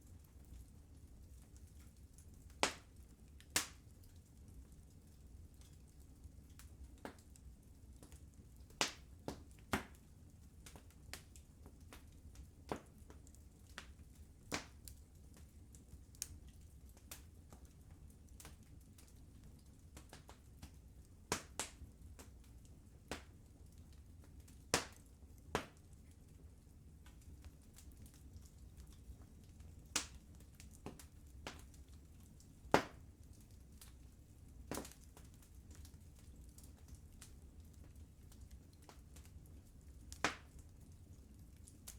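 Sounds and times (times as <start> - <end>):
low fire rumble: 0.0 - 41.9
wood fire crackling: 0.0 - 41.9.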